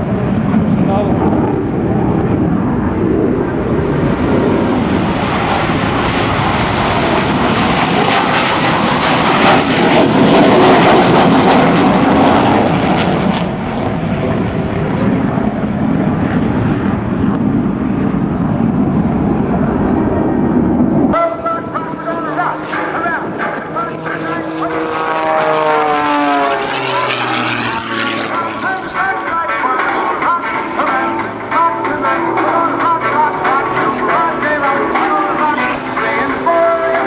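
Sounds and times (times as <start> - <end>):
jet aircraft flying past: 0.0 - 37.0.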